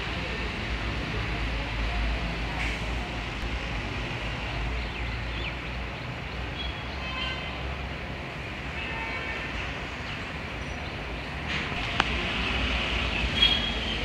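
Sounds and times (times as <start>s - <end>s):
diesel bus engine rumbling: 0.0s - 7.0s, 9.6s - 14.0s.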